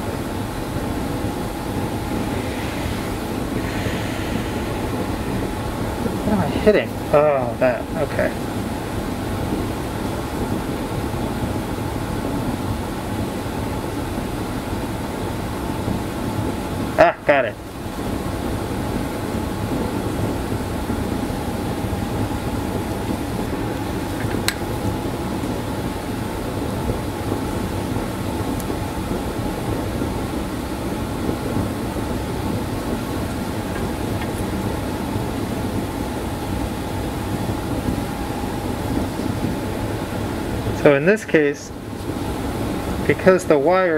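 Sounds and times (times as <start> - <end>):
air-handling hum: 0.0 - 43.9
low rumbling background noise: 0.0 - 43.9.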